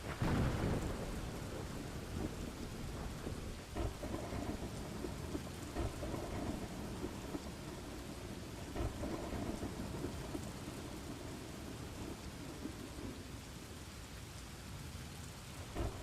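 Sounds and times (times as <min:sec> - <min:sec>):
low thunder rumbles: 0:00.0 - 0:14.0, 0:15.6 - 0:16.0
steady rain: 0:00.0 - 0:16.0.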